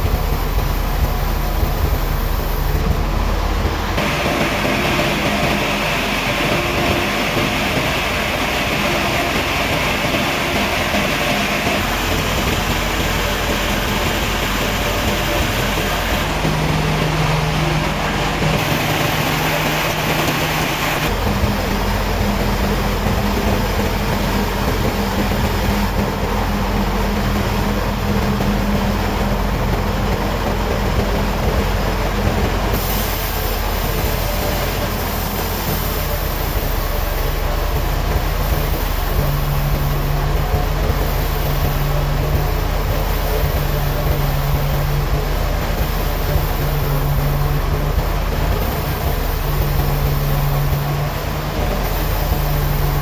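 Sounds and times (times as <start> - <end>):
low engine hum: 0.0 - 53.0
sawmill machinery din: 0.0 - 53.0.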